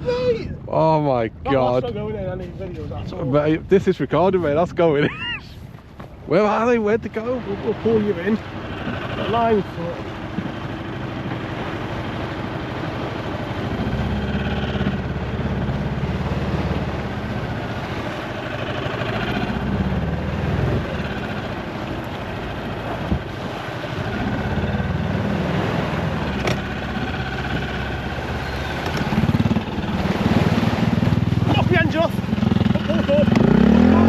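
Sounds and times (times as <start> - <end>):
outboard motor running: 0.0 - 34.0
water noise: 0.0 - 34.0
wind: 0.0 - 34.0.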